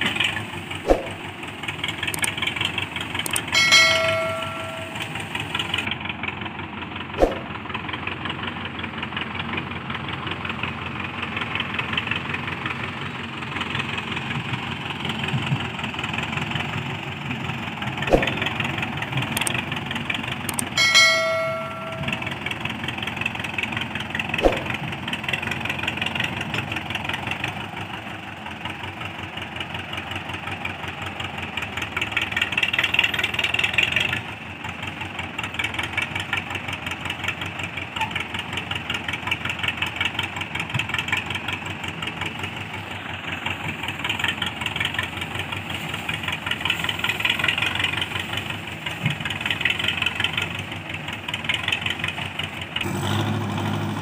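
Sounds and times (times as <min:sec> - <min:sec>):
diesel tractor engine clattering: 0:00.0 - 0:54.0.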